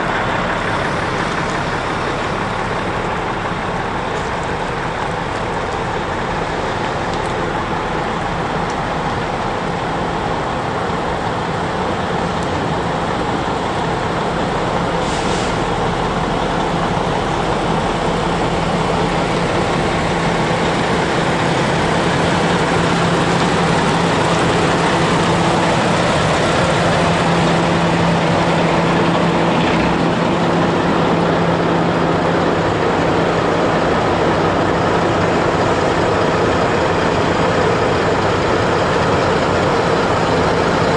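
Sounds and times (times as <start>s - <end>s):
general rumble: 0.0s - 40.9s
heavy truck engines humming: 0.0s - 40.9s.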